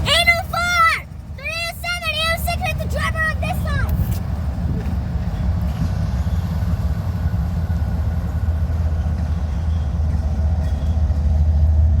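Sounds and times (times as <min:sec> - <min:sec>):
locomotive engines rumbling: 0:00.0 - 0:12.0.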